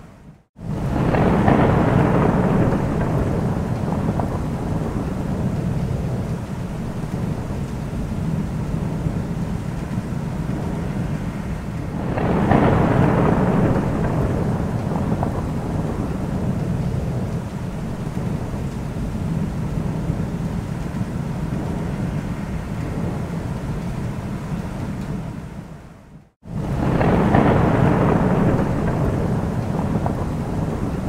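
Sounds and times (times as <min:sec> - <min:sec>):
steady rain: 0:00.0 - 0:31.0
thunder rumbling: 0:00.0 - 0:31.0.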